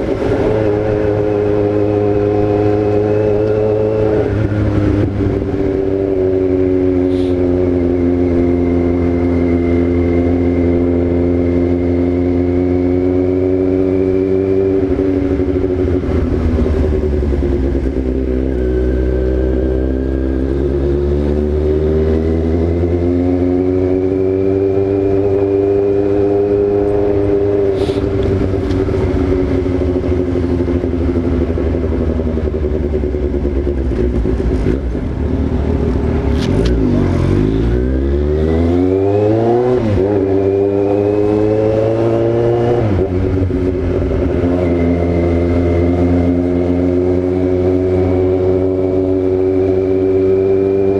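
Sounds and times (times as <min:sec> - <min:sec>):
motorcycle engine cruising: 0:00.0 - 0:50.9.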